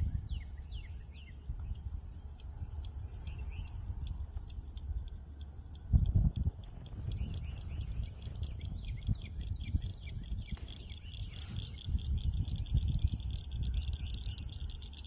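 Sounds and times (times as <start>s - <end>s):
birds chirping: 0.0s - 15.0s
low rumbling noise: 0.0s - 15.0s
steady high hum: 0.0s - 15.0s.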